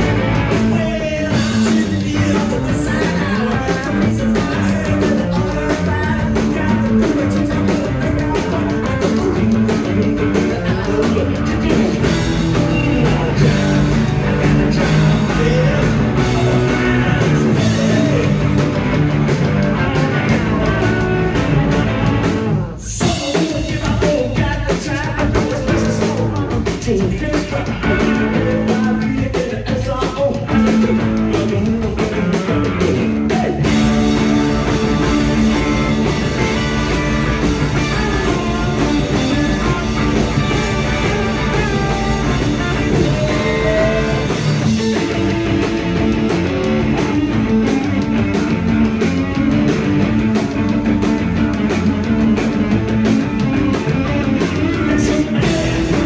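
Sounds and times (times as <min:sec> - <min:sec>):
person singing: 0:00.0 - 0:18.6, 0:19.8 - 0:21.9, 0:22.6 - 0:50.7, 0:51.6 - 0:56.0
drums: 0:00.0 - 0:56.0
electric guitars: 0:00.0 - 0:56.0.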